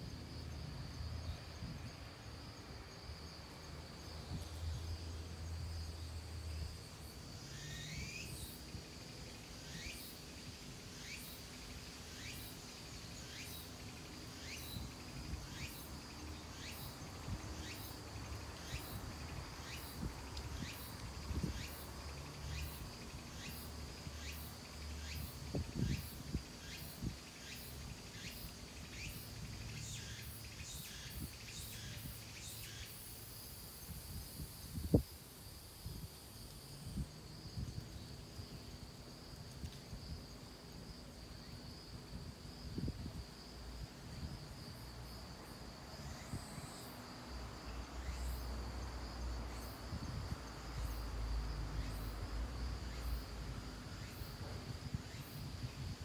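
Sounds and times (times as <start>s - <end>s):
high-pitched insect trill: 0.0s - 56.0s
low wind noise: 0.0s - 56.0s.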